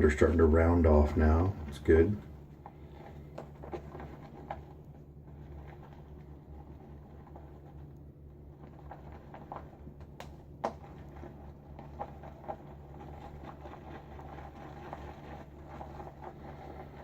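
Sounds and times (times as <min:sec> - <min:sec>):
shaving brush squelching lather: 0:00.0 - 0:17.0
steady low hum: 0:00.0 - 0:17.0.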